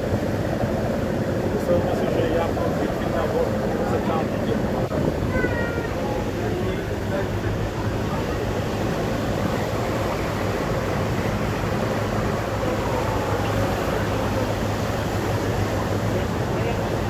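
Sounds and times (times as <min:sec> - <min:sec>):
ferry engine drone: 0:00.0 - 0:17.0
wind and water hiss: 0:00.0 - 0:17.0.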